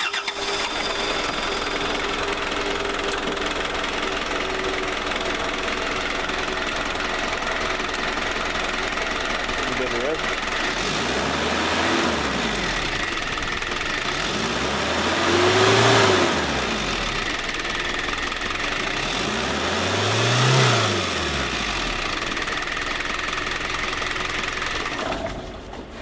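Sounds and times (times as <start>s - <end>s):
diesel engine idling and revving: 0.0s - 26.0s.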